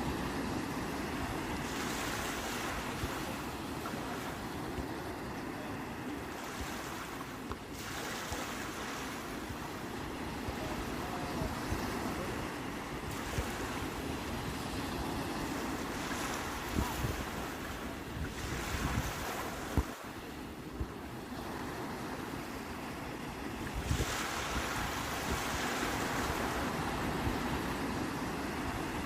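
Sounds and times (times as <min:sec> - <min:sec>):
sea waves breaking on shore: 0:00.0 - 0:29.0.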